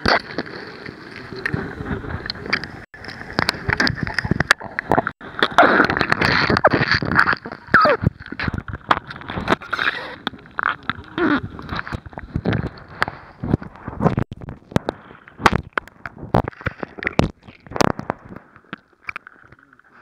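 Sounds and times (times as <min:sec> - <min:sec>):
bubbling gurgles: 0:00.0 - 0:20.0.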